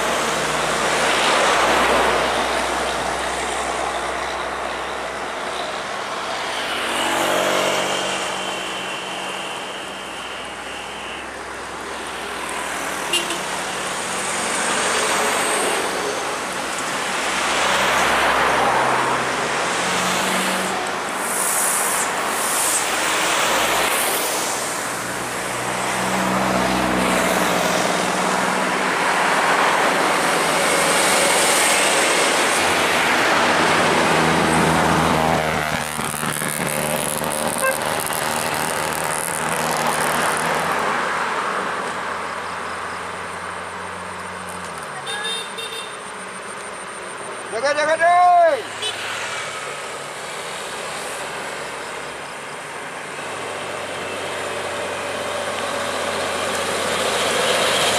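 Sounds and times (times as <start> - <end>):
trucks and cars passing: 0.0 - 57.9.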